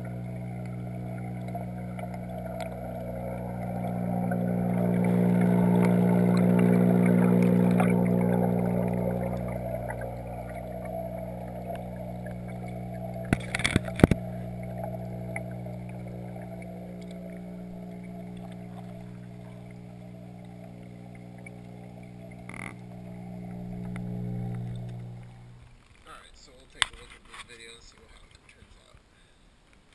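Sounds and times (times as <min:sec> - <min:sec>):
water bubbling: 0:00.0 - 0:26.2
muffled electric hum underwater: 0:00.0 - 0:28.9.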